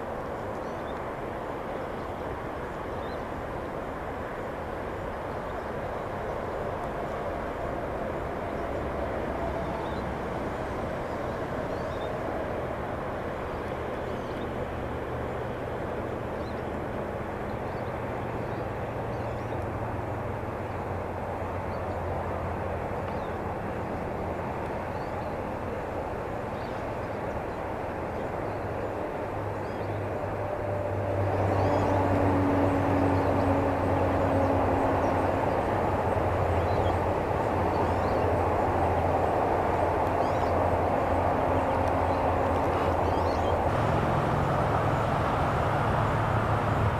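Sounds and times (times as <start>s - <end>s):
distant engine drone: 0.0s - 46.9s
outdoor background hiss: 0.0s - 46.9s.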